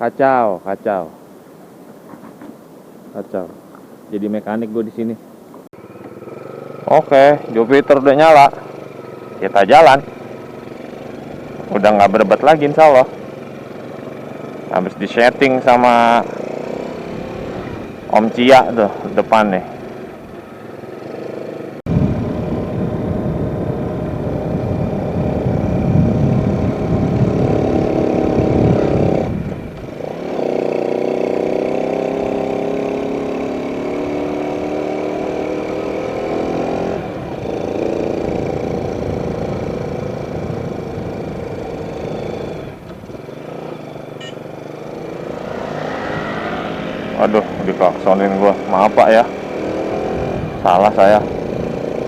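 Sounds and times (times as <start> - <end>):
motorcycle engine accelerating: 5.8 - 52.0.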